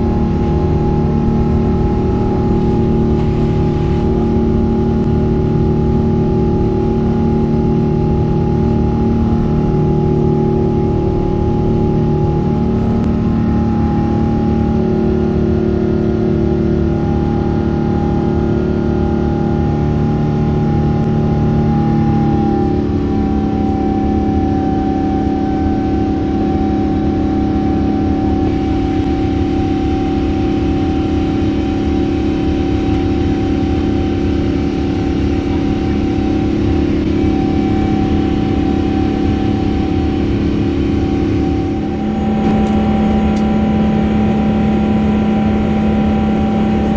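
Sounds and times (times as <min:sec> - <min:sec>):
jet engines droning in cabin: 0:00.0 - 0:46.9.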